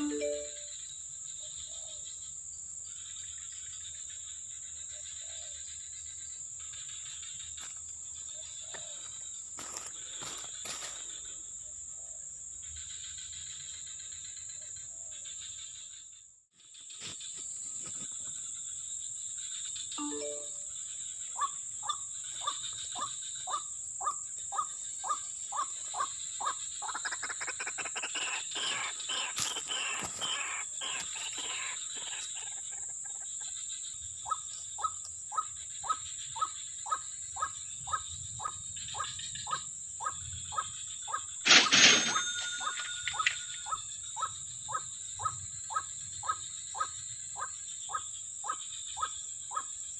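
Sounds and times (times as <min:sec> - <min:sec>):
high-pitched insect drone: 0:00.0 - 0:11.6, 0:12.5 - 0:49.9.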